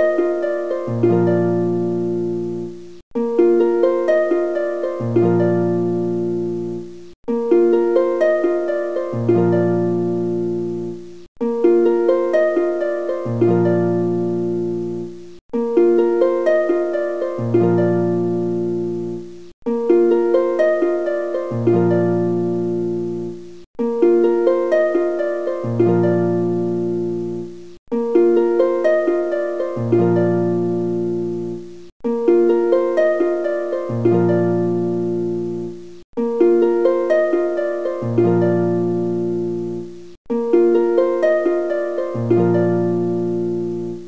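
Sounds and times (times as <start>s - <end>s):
plucked harp-like melody: 0.0s - 44.0s.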